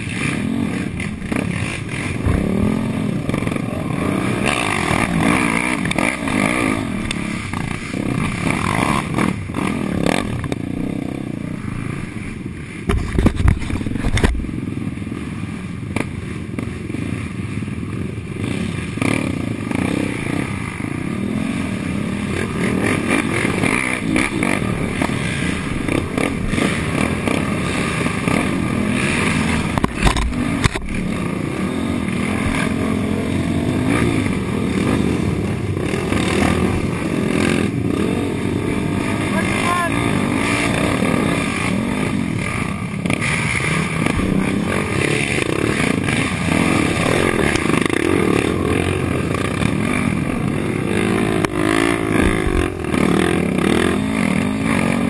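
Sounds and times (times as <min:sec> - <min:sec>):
other quad engines: 0:00.0 - 0:55.0
quad bike engine revving: 0:00.0 - 0:55.0.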